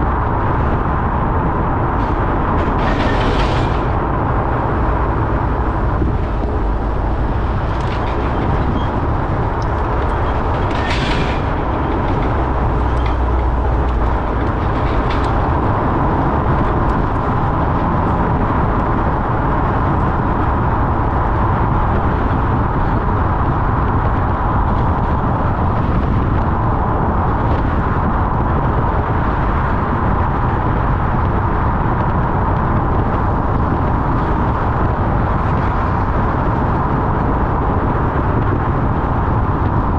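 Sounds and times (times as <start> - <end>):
car road and drivetrain rumble: 0.0 - 39.9.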